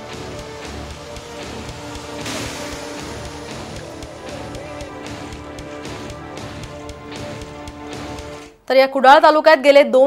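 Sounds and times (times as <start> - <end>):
background music with beat: 0.0 - 8.6.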